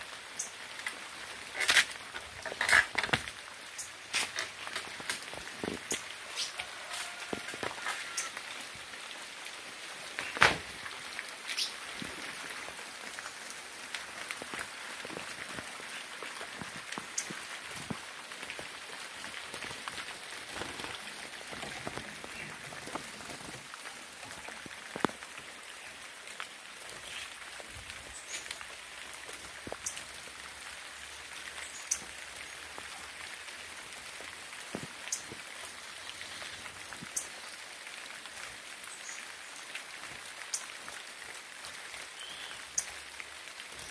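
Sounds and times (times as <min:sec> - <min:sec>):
sharp raindrops landing close: 0:00.0 - 0:43.9
steady rain hiss: 0:00.0 - 0:43.9.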